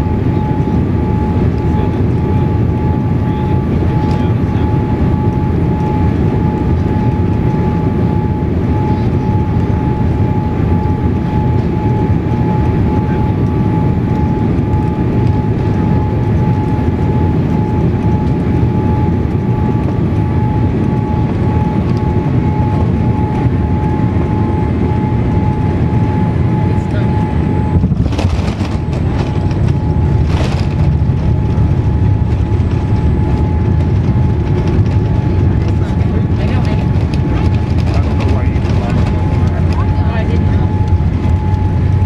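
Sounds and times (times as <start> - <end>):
jet engines roaring in cabin: 0.0 - 42.0.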